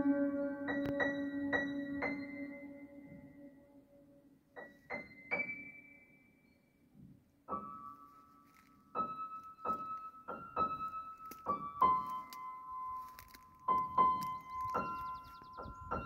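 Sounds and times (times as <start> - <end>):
soft piano notes: 0.0 - 6.2, 7.0 - 16.0.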